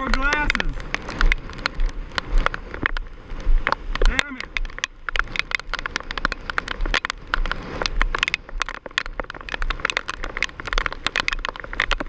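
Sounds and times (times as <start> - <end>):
heavy rain hitting microphone: 0.0 - 12.0
low wind buffeting: 0.0 - 12.0.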